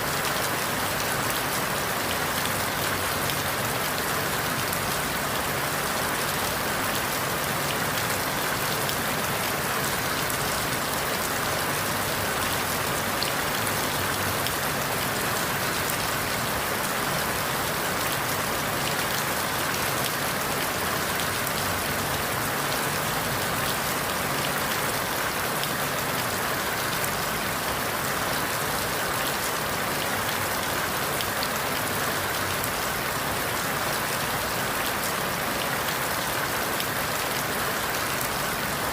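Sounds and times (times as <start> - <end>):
rain falling through leaves: 0.0 - 38.9.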